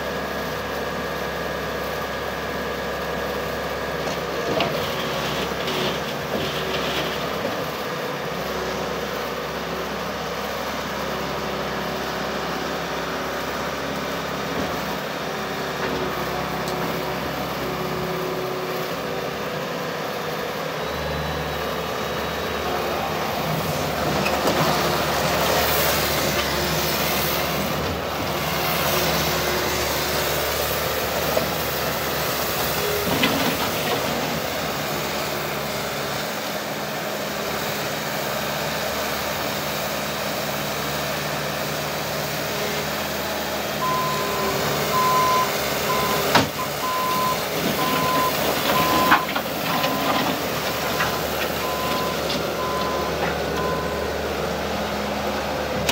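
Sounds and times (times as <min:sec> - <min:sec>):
loader diesel engine running: 0:00.0 - 0:55.9.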